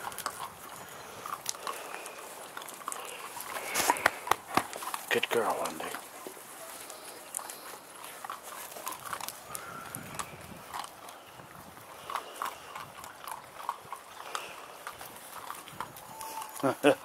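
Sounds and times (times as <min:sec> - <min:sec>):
puppies crunching kibble: 0:00.0 - 0:17.0.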